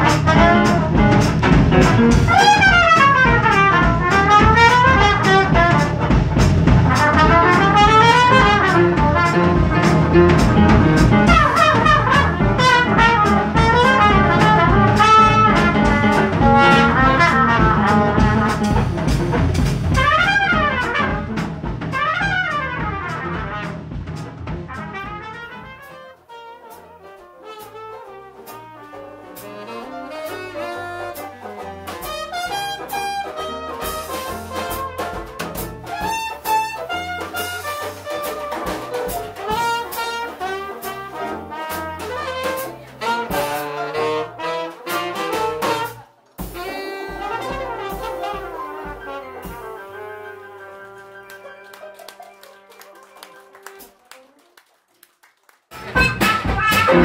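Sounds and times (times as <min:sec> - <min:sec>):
trumpet playing loudly: 0:00.0 - 0:23.9, 0:24.6 - 0:54.5, 0:55.7 - 0:57.0
stepping bass notes: 0:00.0 - 0:25.9, 0:27.2 - 0:51.8, 0:55.7 - 0:57.0
jazz band playing: 0:00.0 - 0:54.7, 0:55.7 - 0:57.0.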